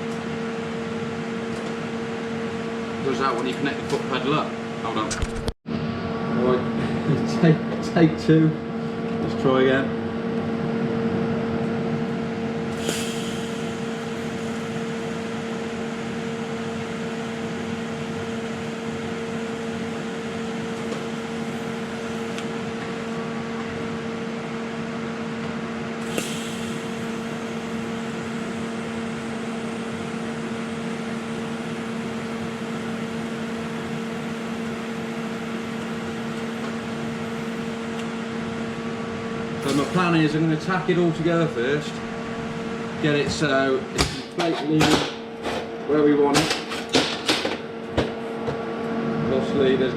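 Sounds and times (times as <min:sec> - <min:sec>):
welding set humming: 0:00.0 - 0:05.6, 0:06.4 - 0:49.9.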